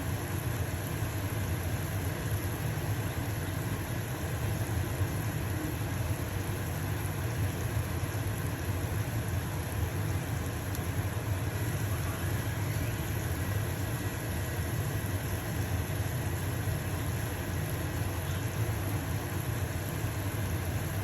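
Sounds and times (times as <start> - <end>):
pancake sizzling in frying pan: 0.0 - 21.0
range hood fan humming: 0.0 - 21.0.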